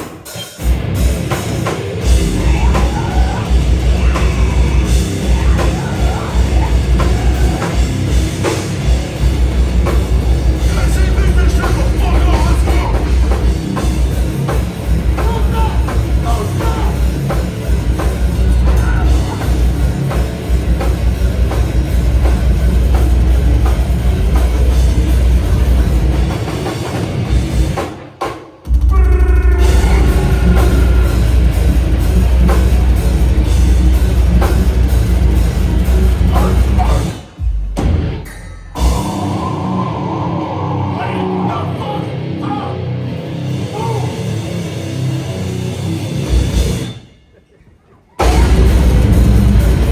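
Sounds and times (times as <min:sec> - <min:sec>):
death metal band playing live: 0:00.0 - 0:47.1, 0:48.2 - 0:49.9.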